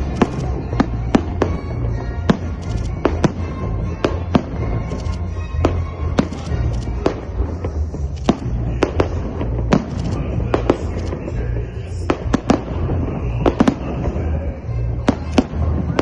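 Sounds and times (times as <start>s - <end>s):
fireworks bangs: 0.0s - 16.0s
low rumble: 0.0s - 16.0s.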